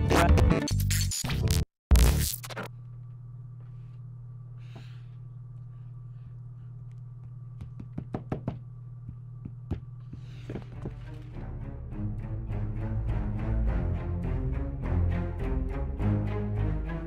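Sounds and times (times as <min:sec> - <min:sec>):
low steady hum: 0:02.6 - 0:17.0.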